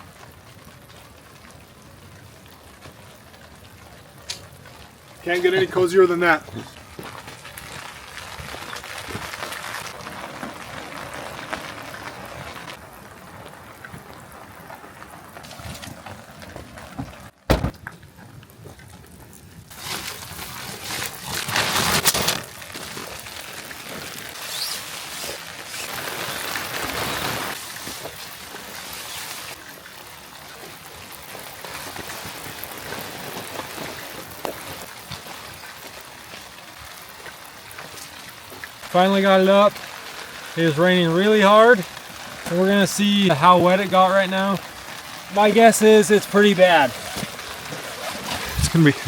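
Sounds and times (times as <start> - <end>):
heavy rain falling: 0.0 - 17.9, 19.7 - 49.0.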